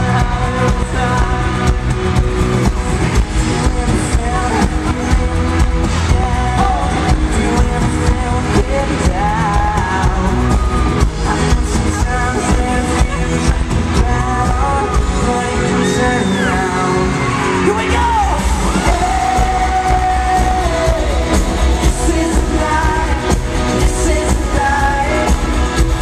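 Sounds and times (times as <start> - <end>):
lead vocal singing: 0.0 - 26.0
live pop rock band: 0.0 - 26.0.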